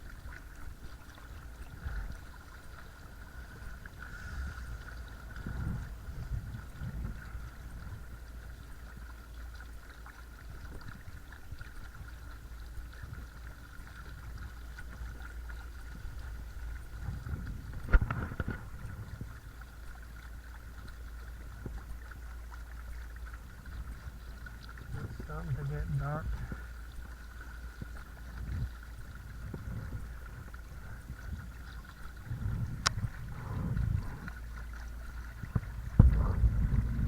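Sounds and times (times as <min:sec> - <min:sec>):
water and wind rumble: 0:00.0 - 0:37.0.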